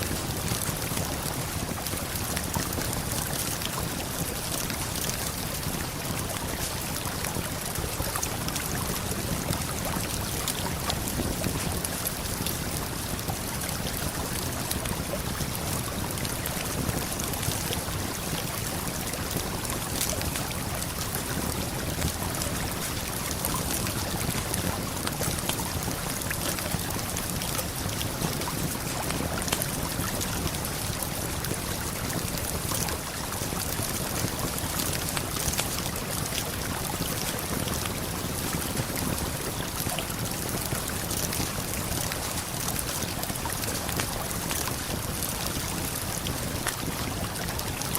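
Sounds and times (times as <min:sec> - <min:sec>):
campfire crackling and popping: 0:00.1 - 0:47.4.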